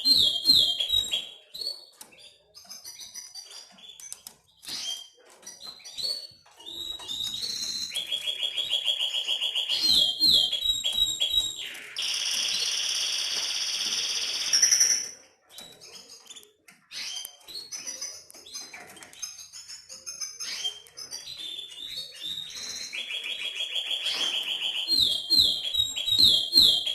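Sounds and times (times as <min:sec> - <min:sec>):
canary trilling: 0:00.0 - 0:26.9.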